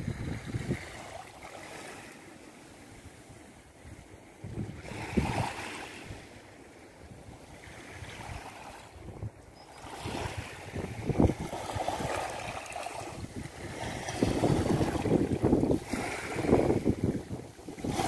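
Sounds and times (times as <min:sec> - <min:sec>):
wind buffeting microphone: 0:00.0 - 0:01.3, 0:03.1 - 0:18.0
waves lapping on pebbly shore: 0:00.0 - 0:18.0.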